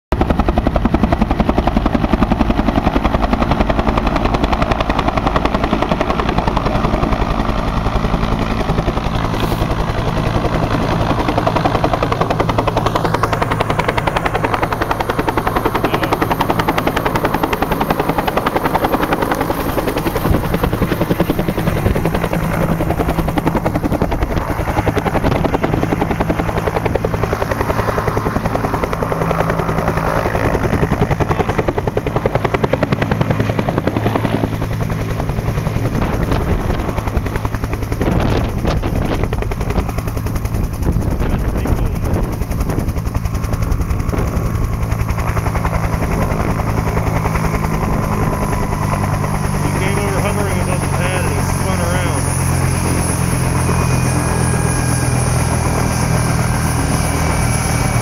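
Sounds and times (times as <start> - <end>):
helicopter rotor beating: 0.1 - 58.0
turbine engine running: 0.2 - 58.0.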